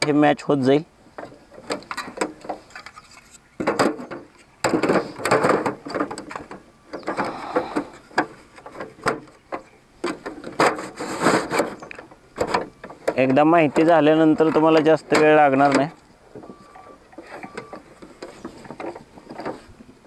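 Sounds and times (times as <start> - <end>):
hard plastic parts clicking and knocking: 1.2 - 3.0, 3.6 - 19.6.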